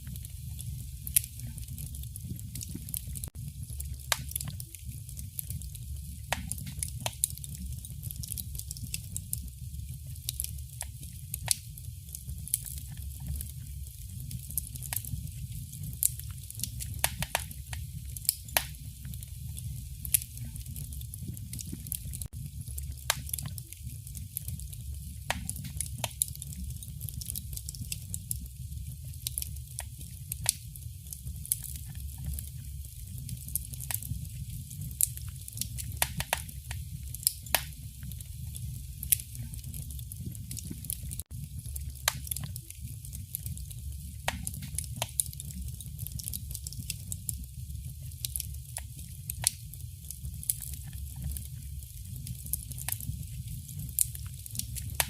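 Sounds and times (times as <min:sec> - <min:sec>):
fire crackling and popping: 0:00.0 - 0:55.0
low fire rumble: 0:00.0 - 0:55.0.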